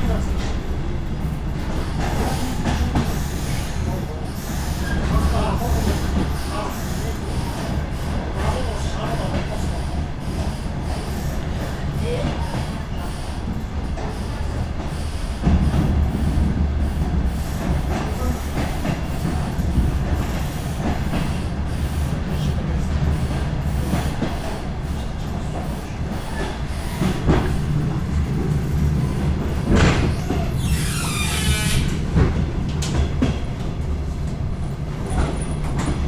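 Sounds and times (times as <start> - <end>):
diesel train rumbling: 0.0 - 36.0.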